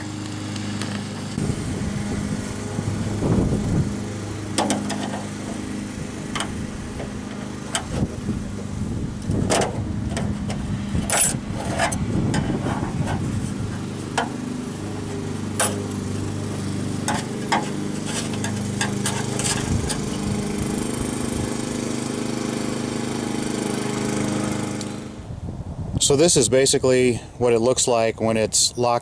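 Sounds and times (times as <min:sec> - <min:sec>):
steady engine-like hum: 0:00.0 - 0:26.4.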